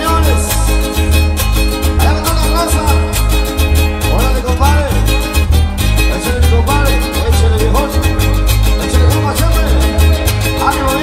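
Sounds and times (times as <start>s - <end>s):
heavy pulsing bass: 0.0s - 11.0s
live band playing fast dance tune: 0.0s - 11.0s.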